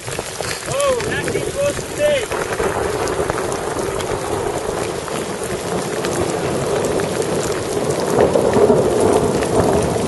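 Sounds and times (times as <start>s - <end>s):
hail and rain pelting on rock: 0.0s - 10.0s.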